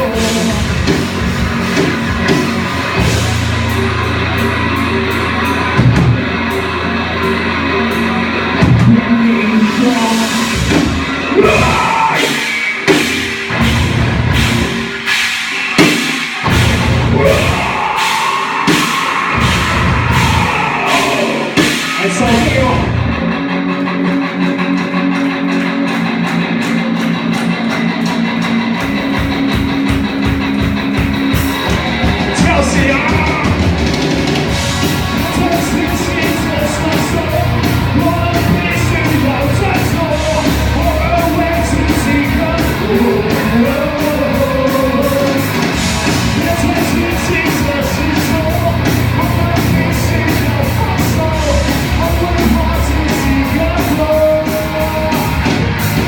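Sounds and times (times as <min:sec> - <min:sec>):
person singing: 0:00.0 - 0:13.7, 0:14.7 - 0:23.8, 0:31.0 - 0:56.0
drums: 0:00.0 - 0:56.0.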